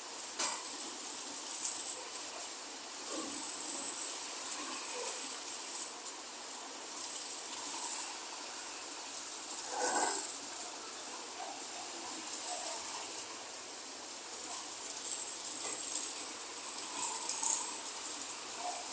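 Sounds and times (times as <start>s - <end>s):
rain hissing: 0.0s - 18.9s
insects chirring: 0.7s - 18.9s.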